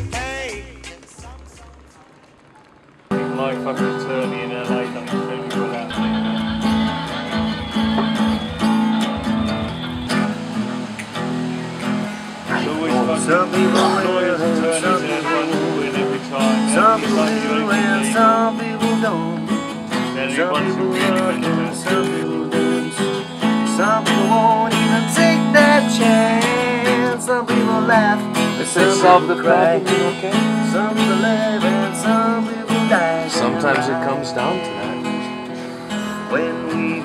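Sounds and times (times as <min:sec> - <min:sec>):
acoustic guitar song with beat: 0:00.0 - 0:37.0.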